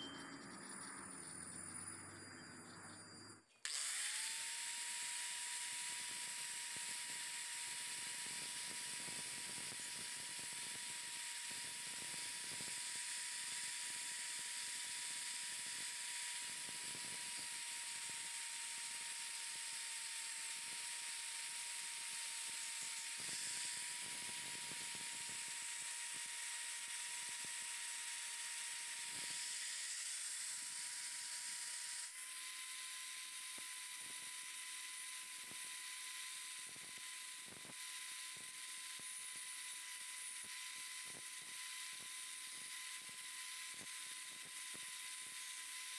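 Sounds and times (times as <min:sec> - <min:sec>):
angle grinder on bamboo: 0:03.6 - 0:45.9.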